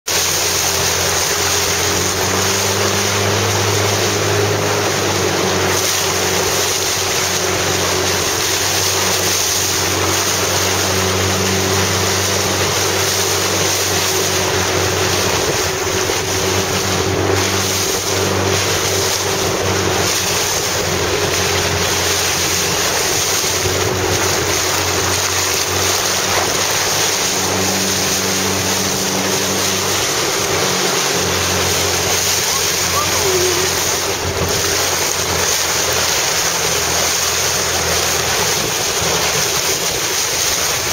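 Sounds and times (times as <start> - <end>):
motorboat engine running: 0.0 - 40.9
water rushing and splashing: 0.0 - 40.9.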